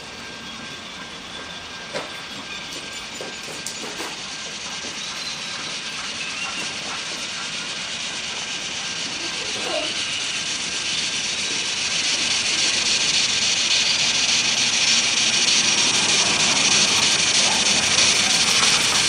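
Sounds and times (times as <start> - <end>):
steam train rushing hiss: 0.0 - 19.0.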